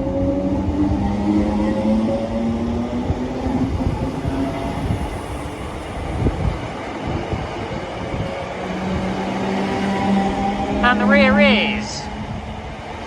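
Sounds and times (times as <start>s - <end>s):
train wheels rumbling on track: 0.0s - 10.8s
electric train hum: 0.0s - 13.0s.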